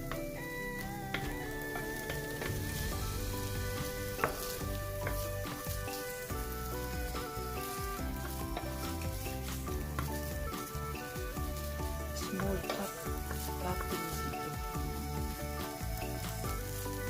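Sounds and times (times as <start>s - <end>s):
background music: 0.0s - 17.0s
food sizzling in a pan: 0.0s - 17.0s.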